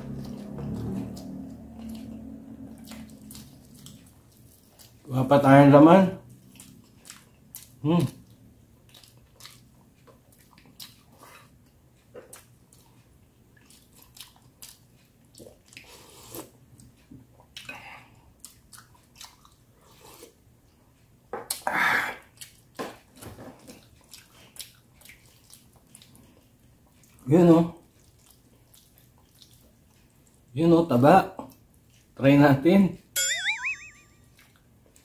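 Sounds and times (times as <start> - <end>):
chewing with wet smacking: 0.0 - 5.2, 6.2 - 21.6, 22.2 - 30.6, 31.3 - 32.2.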